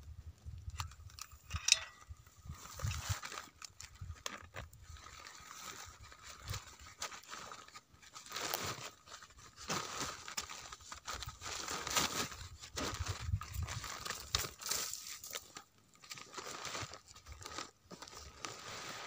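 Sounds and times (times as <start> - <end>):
plastic sack crinkling and rustling: 2.4 - 19.0.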